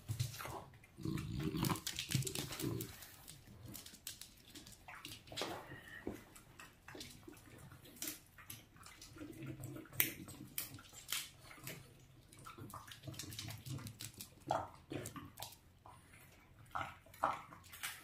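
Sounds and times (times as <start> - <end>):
dogs chewing wetly: 0.0 - 18.0.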